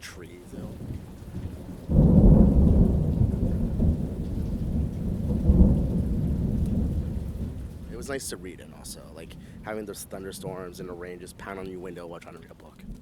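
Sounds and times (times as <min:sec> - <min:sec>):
rain falling: 0:00.0 - 0:13.0
thunder rumbling: 0:00.0 - 0:13.0.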